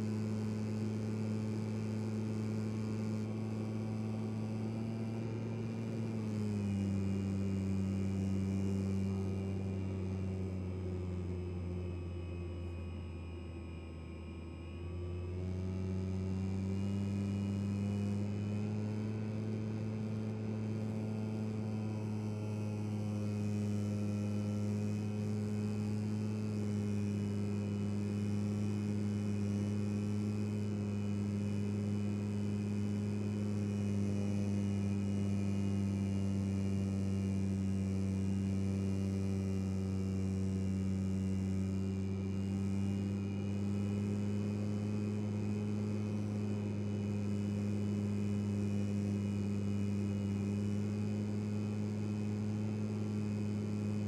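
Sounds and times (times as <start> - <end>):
model plane motor drone: 0.0 - 54.0.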